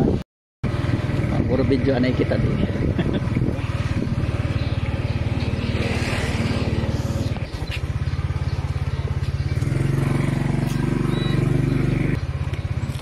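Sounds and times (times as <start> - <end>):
small engine puttering: 0.7 - 13.0.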